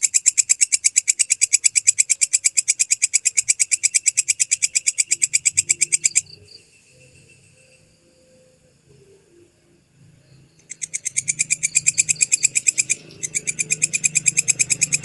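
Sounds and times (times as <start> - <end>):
katydid chirping: 0.0 - 15.0.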